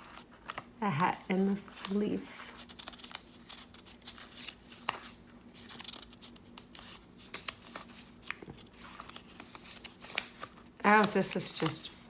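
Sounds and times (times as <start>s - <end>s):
faint steady hum: 0.0s - 12.0s
paper rustling and ticking: 0.0s - 12.0s.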